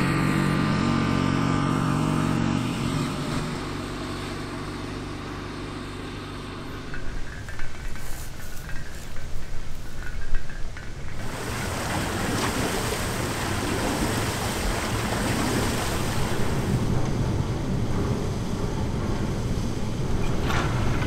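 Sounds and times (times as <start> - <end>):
water rushing at water wheel: 0.0 - 21.0.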